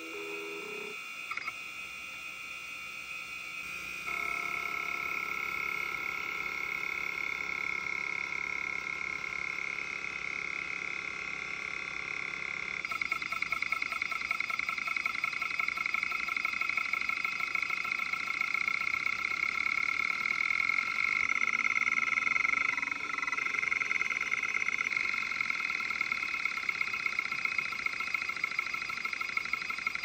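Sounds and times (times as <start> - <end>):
hard drive buzzing rattle: 0.0 - 30.0.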